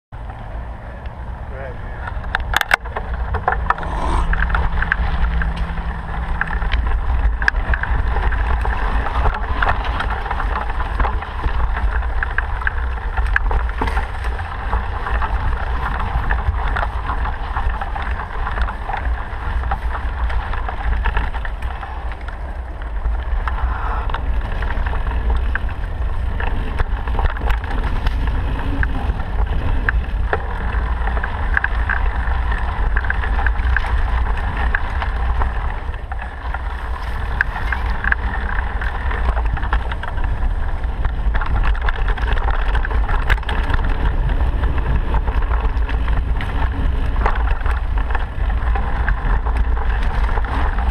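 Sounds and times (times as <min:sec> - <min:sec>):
road rumble of vehicle: 0:00.1 - 0:50.9
wind on microphone: 0:00.2 - 0:50.9.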